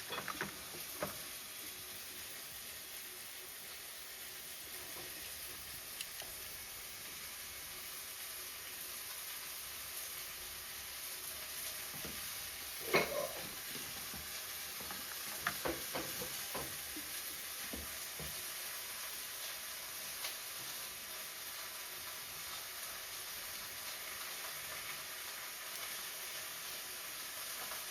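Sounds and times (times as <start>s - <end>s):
steady hiss: 0.0s - 27.9s.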